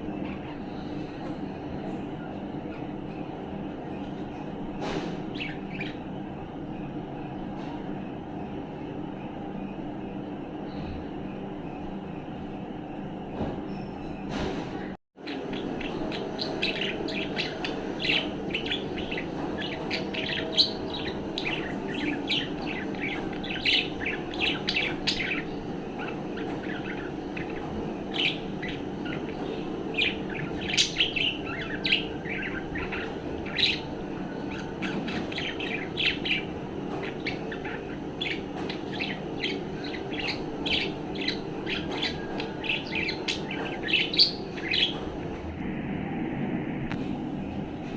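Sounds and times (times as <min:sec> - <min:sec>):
steady background hum: 0:00.0 - 0:47.9.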